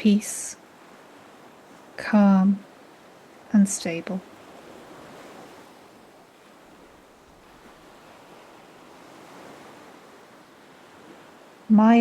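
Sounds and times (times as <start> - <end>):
gentle ocean waves: 0.0 - 12.0.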